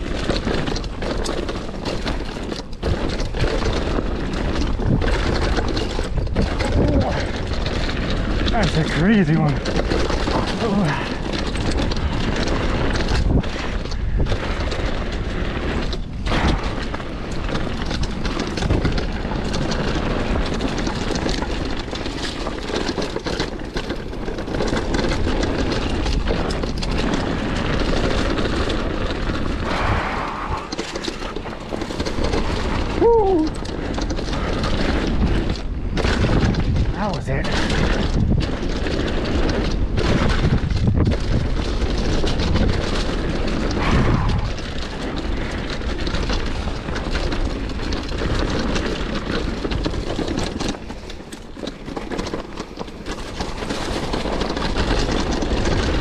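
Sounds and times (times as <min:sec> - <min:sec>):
tyres crunching on gravel: 0:00.0 - 0:56.0
wind buffeting microphone: 0:00.0 - 0:56.0.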